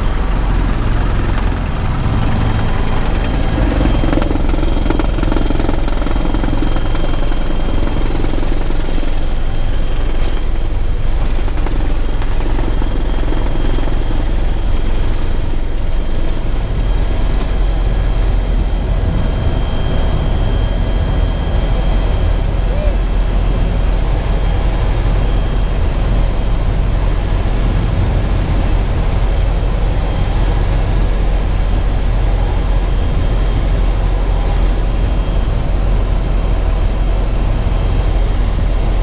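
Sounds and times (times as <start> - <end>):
helicopter rotor drone: 0.0 - 39.0.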